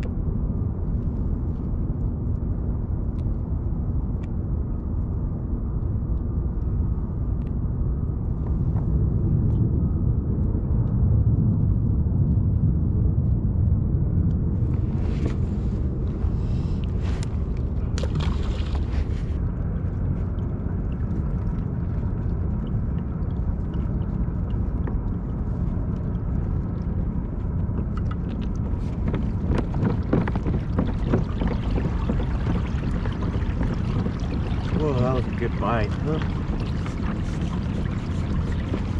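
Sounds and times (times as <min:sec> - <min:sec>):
wind and water rumble: 0:00.0 - 0:38.9.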